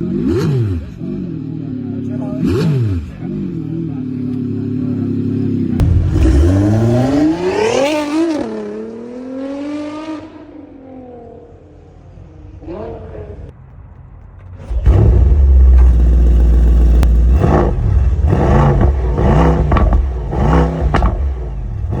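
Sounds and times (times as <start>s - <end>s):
car engine revving: 0.0s - 11.4s, 14.3s - 22.0s.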